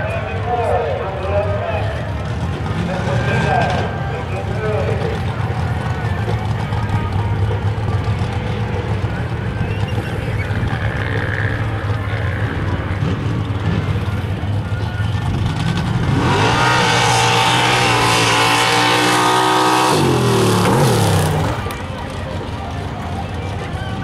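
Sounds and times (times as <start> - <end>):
truck engine idling and revving: 0.0 - 24.0.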